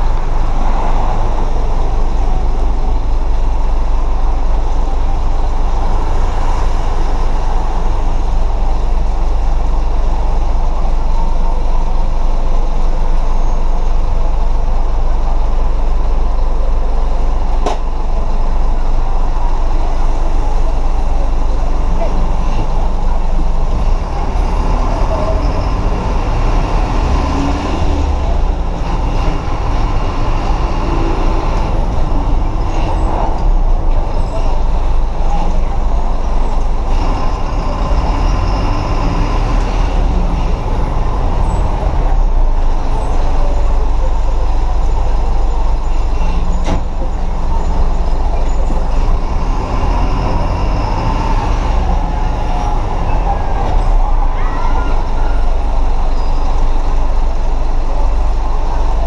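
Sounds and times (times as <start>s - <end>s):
bus diesel engine rumble: 0.0s - 59.0s.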